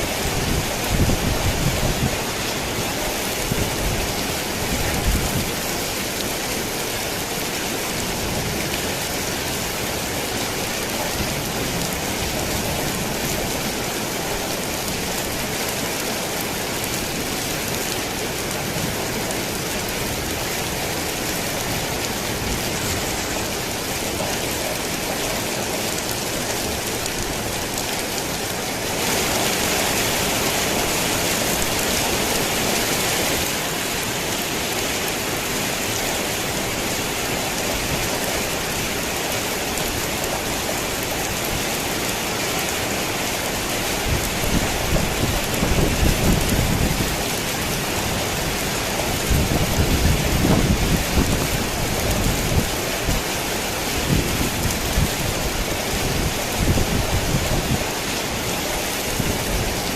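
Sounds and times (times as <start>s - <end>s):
rain on a tin roof: 0.0s - 59.9s.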